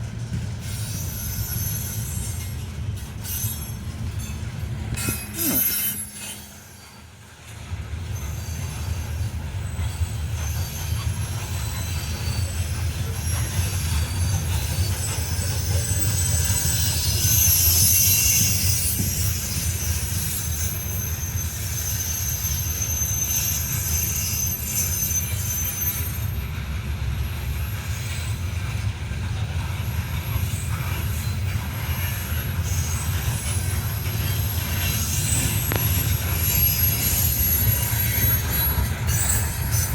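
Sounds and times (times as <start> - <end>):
train rumbling past: 0.0 - 39.9
steel wheel squeal: 0.5 - 39.9.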